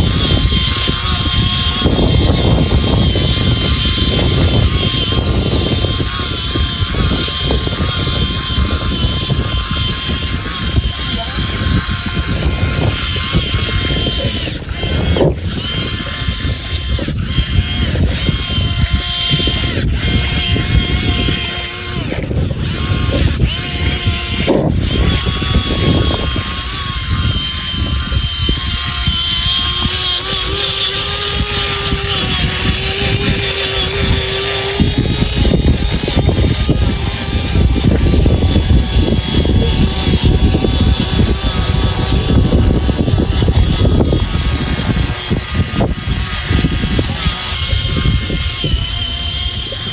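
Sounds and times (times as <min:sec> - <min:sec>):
model vehicle motors whining: 0:00.0 - 0:49.9
steady rumble: 0:00.0 - 0:49.9.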